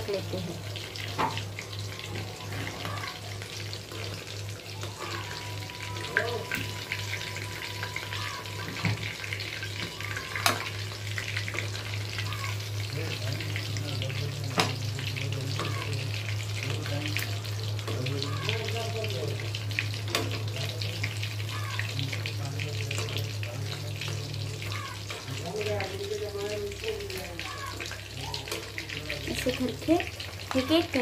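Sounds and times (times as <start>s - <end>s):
fish deep-frying in oil: 0.0s - 31.0s.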